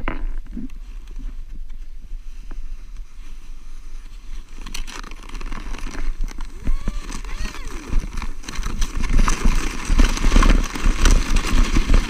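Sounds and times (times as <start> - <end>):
sled scraping over snow: 0.1 - 12.0.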